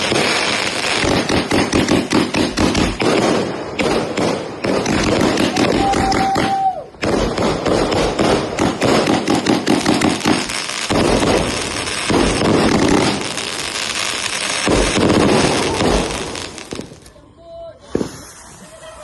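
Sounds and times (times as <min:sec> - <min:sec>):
firework cracks and bangs: 0:00.0 - 0:17.2, 0:17.8 - 0:18.9.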